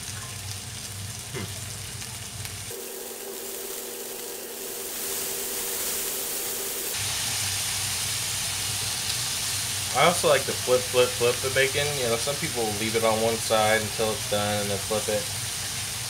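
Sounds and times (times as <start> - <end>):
bacon sizzling and popping: 0.0 - 16.0.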